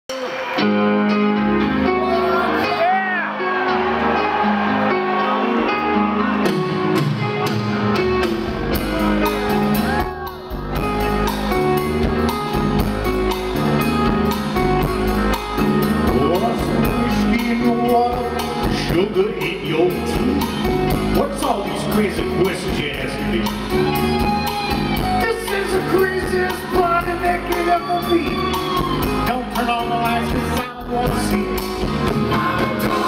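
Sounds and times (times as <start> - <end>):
keyboard and bass notes: 0.1 - 33.0.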